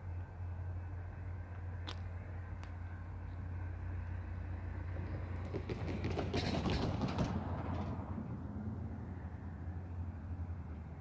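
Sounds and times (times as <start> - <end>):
distant diesel locomotive drone: 0.0 - 11.0.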